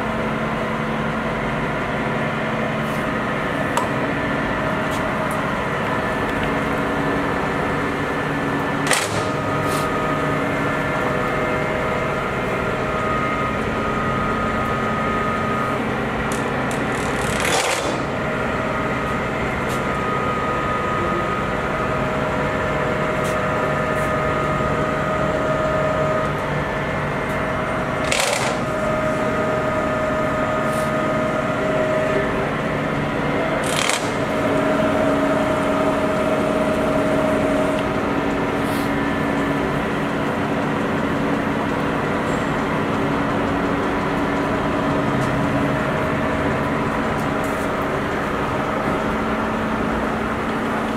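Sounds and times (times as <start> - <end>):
lathe humming with gear whine: 0.0 - 50.9.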